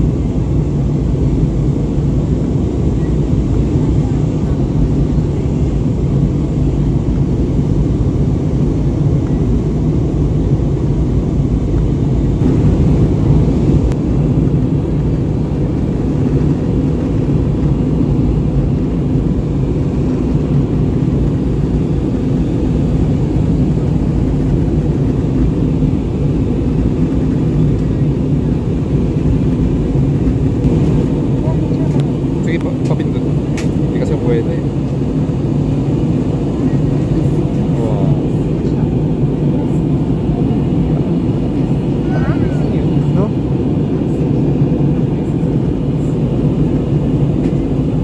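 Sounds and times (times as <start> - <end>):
jet engines rumbling in cabin: 0.0 - 48.0.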